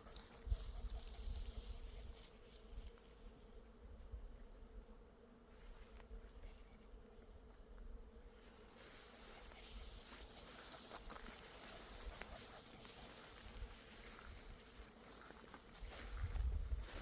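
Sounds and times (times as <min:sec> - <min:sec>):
bees buzzing: 0:00.4 - 0:17.0.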